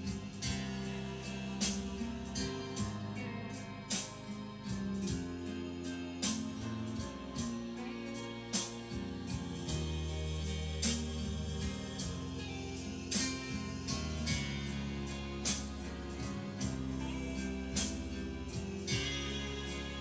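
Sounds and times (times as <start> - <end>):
instrumental music with low notes: 0.0 - 20.0.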